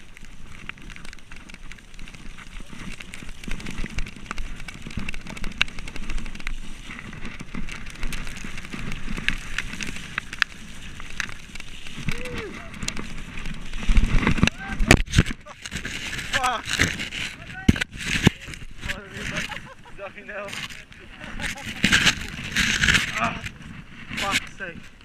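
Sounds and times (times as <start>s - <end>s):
bike clacking and rattling: 0.0s - 25.0s
bike tyres rumbling on dirt: 0.0s - 25.0s.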